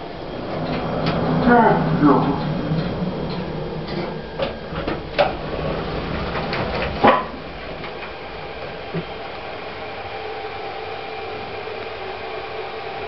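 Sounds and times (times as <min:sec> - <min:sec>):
lift machinery hum: 0:00.0 - 0:13.0.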